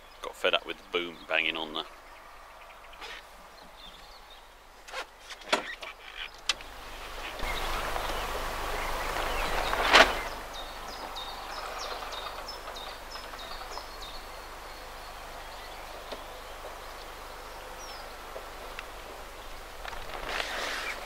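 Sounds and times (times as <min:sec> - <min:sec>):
faint outdoor background: 0:00.0 - 0:21.0
songbird chirping: 0:00.0 - 0:21.0.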